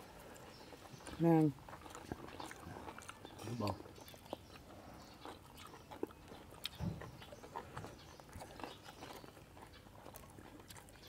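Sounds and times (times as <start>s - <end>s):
people chewing and lip-smacking: 0.0s - 11.0s.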